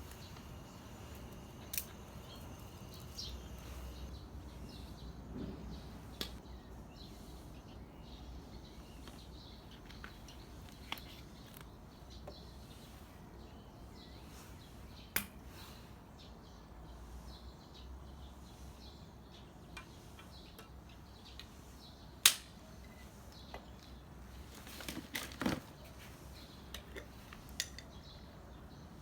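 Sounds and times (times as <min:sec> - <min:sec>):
small bird chirps: 0:00.0 - 0:24.5.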